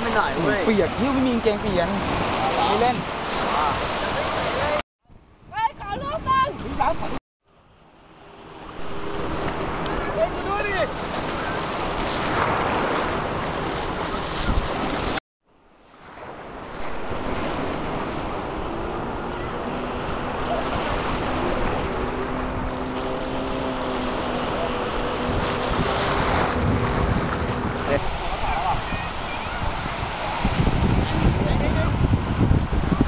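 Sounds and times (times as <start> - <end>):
sea waves washing in shallows: 0.0 - 4.8, 5.8 - 33.0
wind buffeting microphone: 0.0 - 7.2, 8.2 - 15.2, 16.1 - 33.0.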